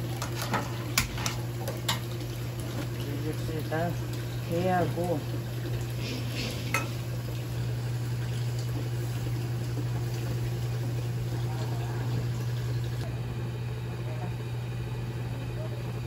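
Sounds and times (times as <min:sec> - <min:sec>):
liquid splashing into pots: 0:00.0 - 0:13.1.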